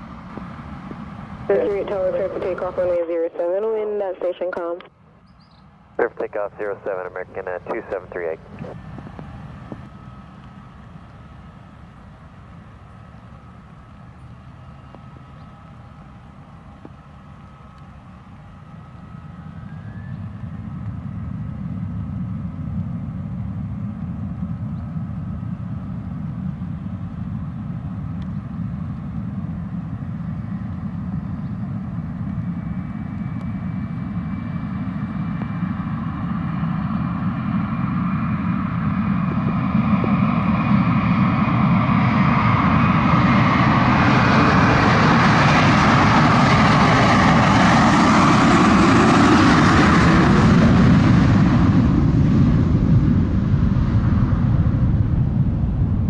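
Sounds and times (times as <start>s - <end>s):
jet engines roaring at takeoff: 0.0s - 56.0s.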